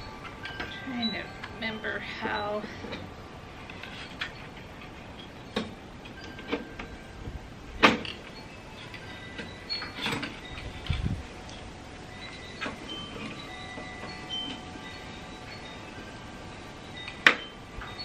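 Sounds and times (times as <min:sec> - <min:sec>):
metal poles clinking: 0:00.0 - 0:18.0.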